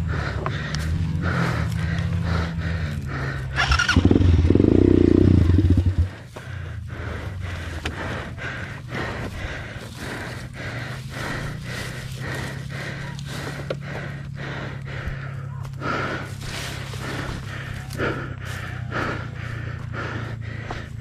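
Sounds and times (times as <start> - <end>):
fast heavy panting: 0.0 - 21.0
steady low hum: 0.0 - 21.0.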